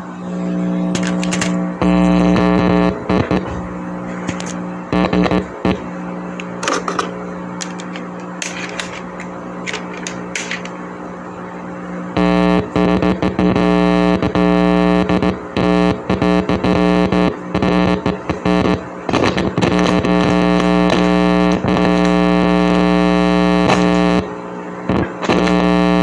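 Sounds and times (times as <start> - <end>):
synthesizer drone: 0.0 - 8.1, 8.7 - 26.0
electronic crackles: 0.6 - 10.8, 12.1 - 26.0.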